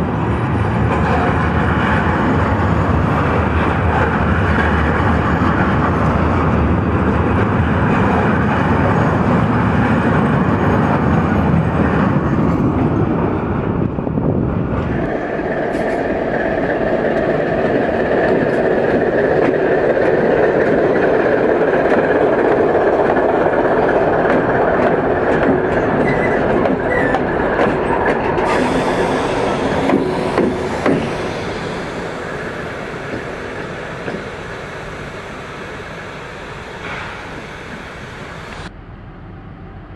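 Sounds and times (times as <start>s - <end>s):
train wheel noise: 0.0s - 38.7s
deep train rumble: 0.0s - 38.8s.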